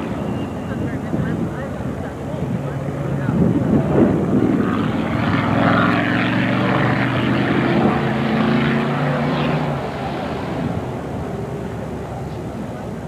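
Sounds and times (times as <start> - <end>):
race car engine passing: 0.0 - 13.0.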